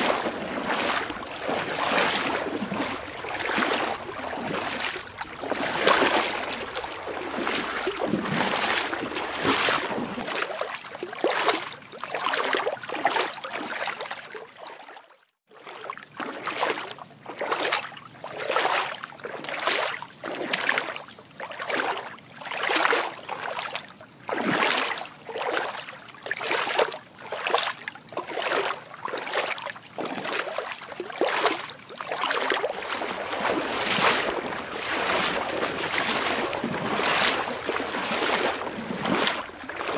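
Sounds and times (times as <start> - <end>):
water sloshing and lapping: 0.0 - 39.9.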